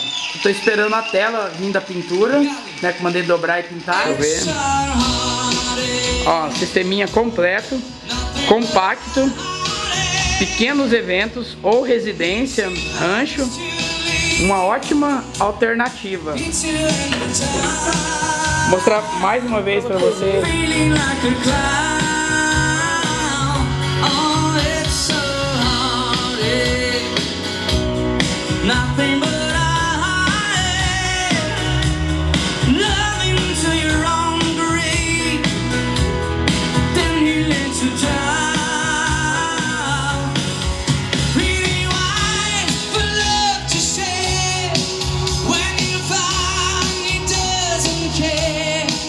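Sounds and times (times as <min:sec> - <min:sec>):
rock song with singing: 0:03.8 - 0:49.0
steady bass line: 0:04.0 - 0:49.0.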